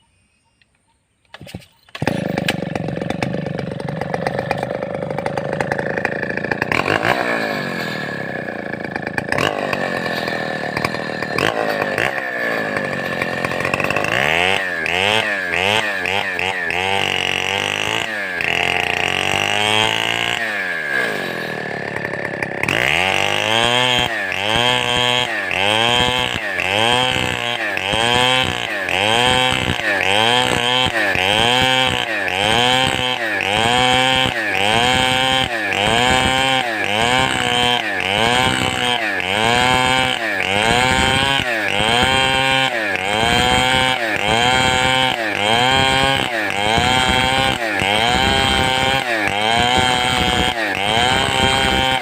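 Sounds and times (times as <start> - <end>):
chainsaw revving: 1.3 - 52.0.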